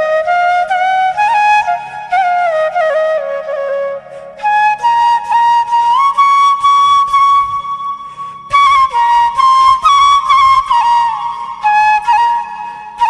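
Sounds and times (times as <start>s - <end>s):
flute-like melody: 0.0s - 13.0s.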